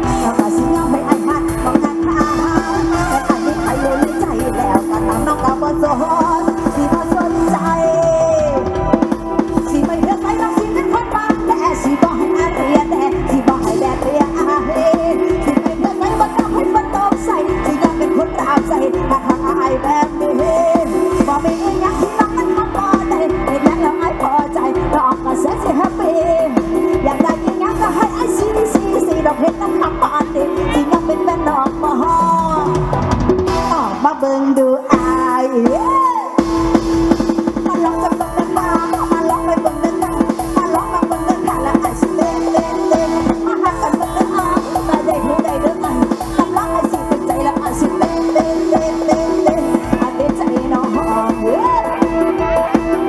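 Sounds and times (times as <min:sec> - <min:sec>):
bending melody line: 0:00.0 - 0:53.0
drums fast beat: 0:00.0 - 0:53.0.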